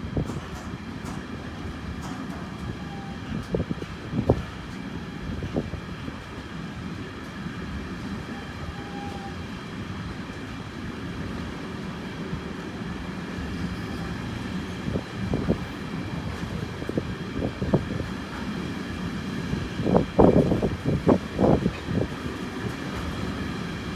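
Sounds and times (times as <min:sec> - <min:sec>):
train rumbling past: 0:00.0 - 0:23.9.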